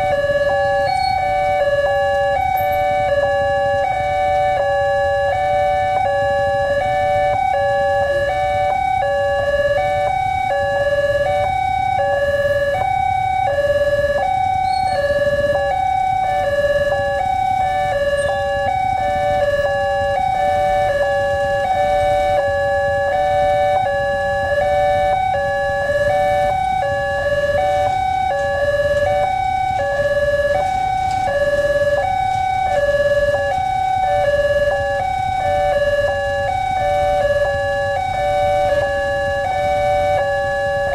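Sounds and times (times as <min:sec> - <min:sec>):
level crossing warning sirens: 0:00.0 - 0:40.9.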